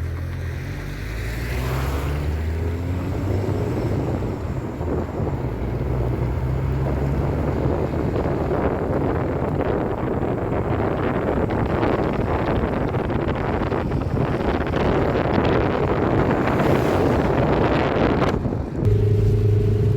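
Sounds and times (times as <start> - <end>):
vehicle engine humming: 0.0 - 19.9
wind noise: 1.6 - 19.9.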